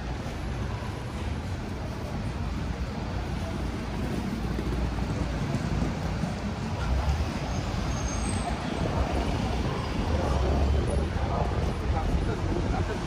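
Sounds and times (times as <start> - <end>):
street traffic rumbling: 0.0 - 13.0.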